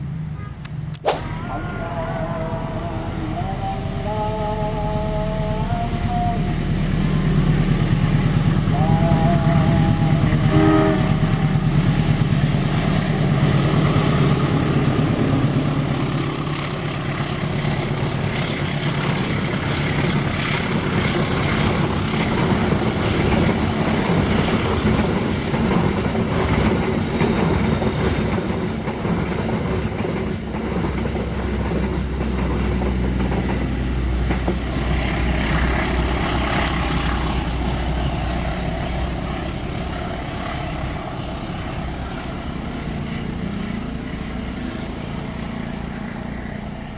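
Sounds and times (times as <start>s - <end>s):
locomotive engine hum: 0.0s - 46.9s
train wheels clattering on rails: 6.8s - 45.6s.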